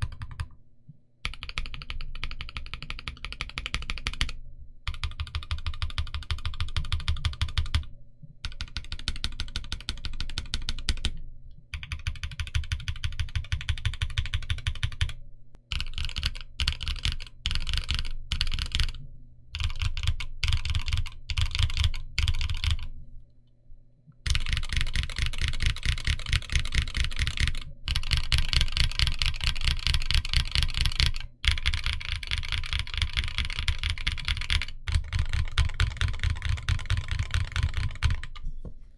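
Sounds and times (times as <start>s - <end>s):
mechanical keyboard typing: 0.0s - 0.5s, 1.2s - 19.0s, 19.6s - 22.9s, 24.3s - 38.4s.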